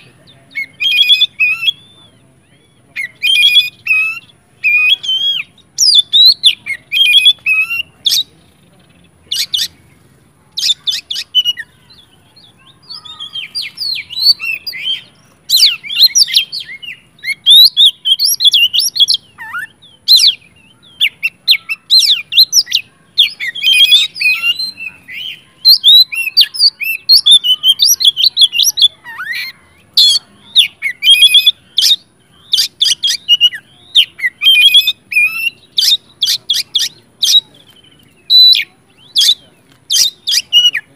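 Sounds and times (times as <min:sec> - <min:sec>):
bird song with rapid whistles: 0:00.0 - 0:08.3, 0:09.2 - 0:40.9.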